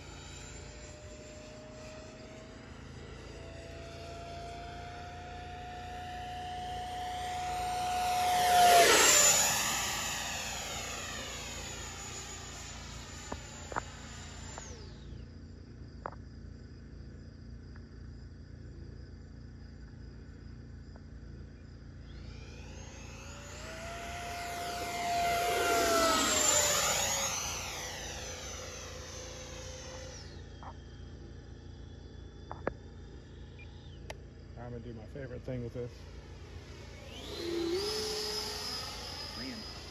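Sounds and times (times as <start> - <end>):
model jet fan whining overhead: 0.0 - 17.6, 18.4 - 39.9.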